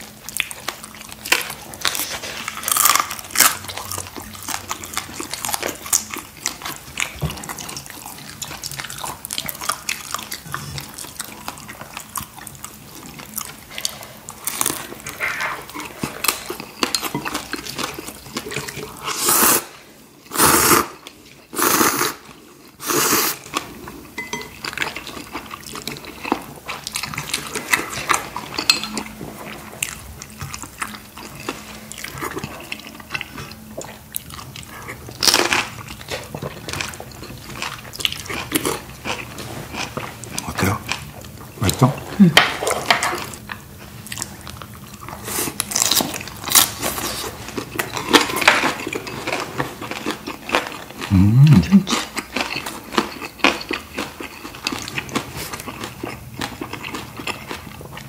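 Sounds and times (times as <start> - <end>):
chewing noodles: 0.0 - 58.0.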